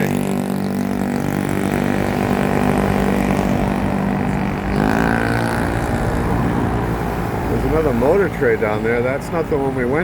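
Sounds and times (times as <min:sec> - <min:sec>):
approaching vehicle engine: 0:00.0 - 0:09.0
passing vehicle engines: 0:00.0 - 0:10.0.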